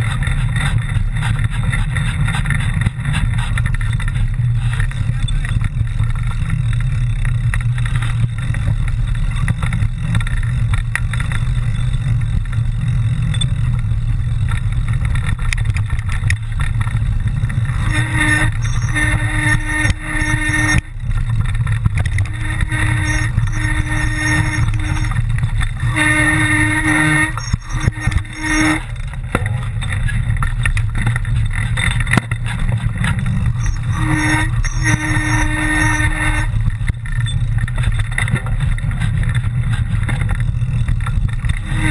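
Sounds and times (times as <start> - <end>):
bike ride rumble: 0.0 - 41.9
steady humming tone: 0.0 - 41.9.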